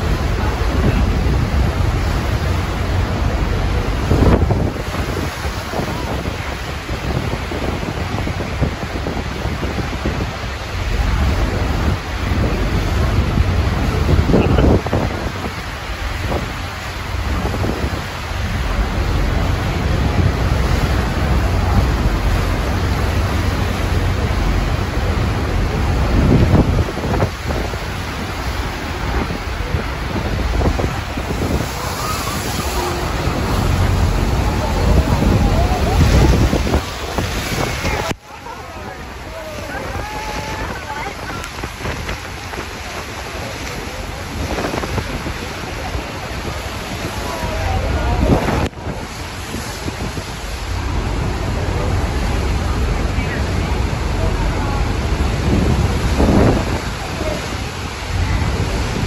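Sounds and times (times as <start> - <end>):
waterfall rushing: 0.0 - 59.0
wind buffeting microphone: 0.0 - 59.0.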